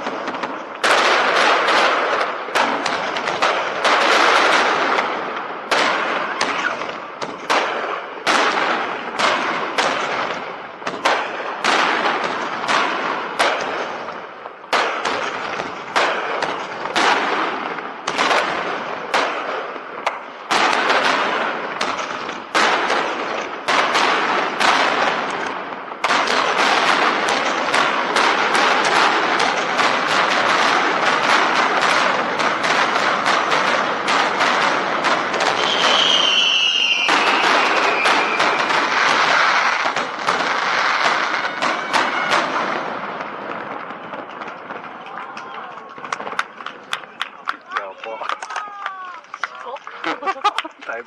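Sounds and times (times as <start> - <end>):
fireworks bursting: 0.0 - 47.7.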